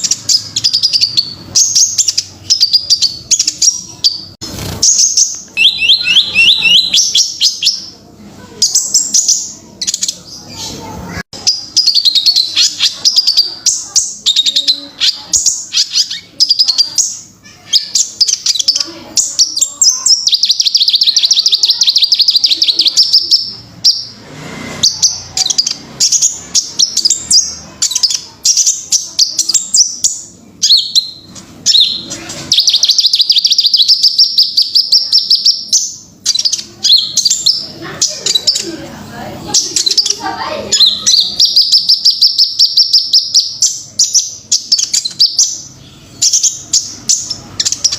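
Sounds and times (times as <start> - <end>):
bird twittering and trilling: 0.0 - 47.9.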